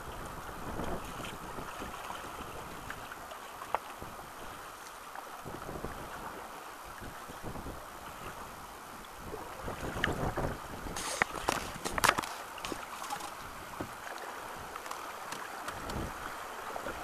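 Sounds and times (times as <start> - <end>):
river water slapping around canoe: 0.0 - 17.0.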